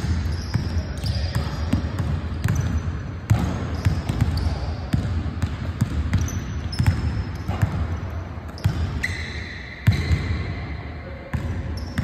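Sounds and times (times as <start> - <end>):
basketballs bouncing on gym floor: 0.0 - 12.0.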